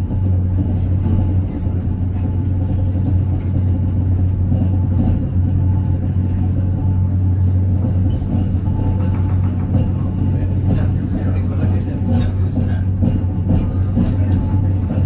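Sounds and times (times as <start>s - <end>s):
cogwheel train rumbling: 0.0s - 15.0s.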